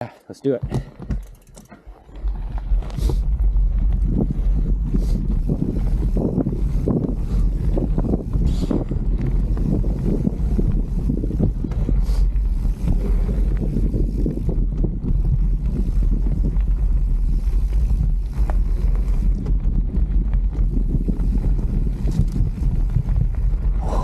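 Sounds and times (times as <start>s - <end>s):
bike rattling and knocking: 0.5s - 24.0s
tyres rumbling on dirt: 0.7s - 24.0s
wind buffeting microphone: 2.1s - 24.0s.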